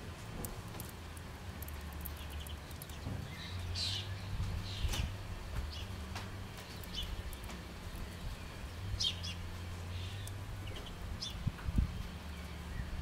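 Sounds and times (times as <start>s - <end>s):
low steady hum: 0.0s - 13.0s
birds giving high chirps: 1.6s - 13.0s.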